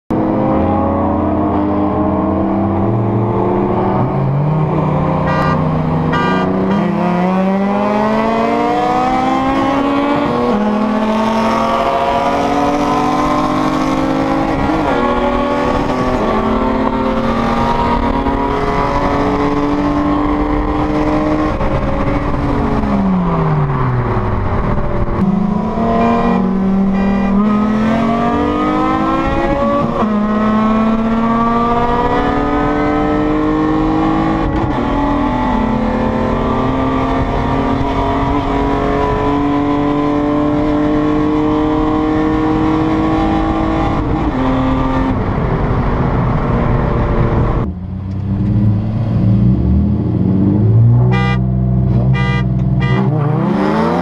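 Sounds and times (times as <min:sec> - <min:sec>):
car engine accelerating: 0:00.1 - 0:54.0.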